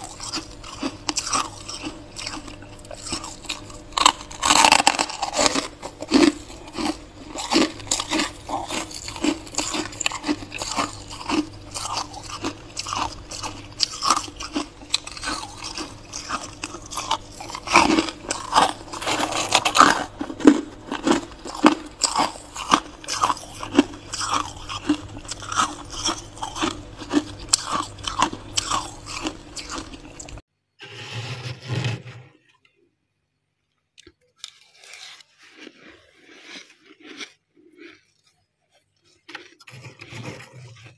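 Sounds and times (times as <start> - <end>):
frost being chewed crunching: 0.0 - 30.4, 34.0 - 40.9.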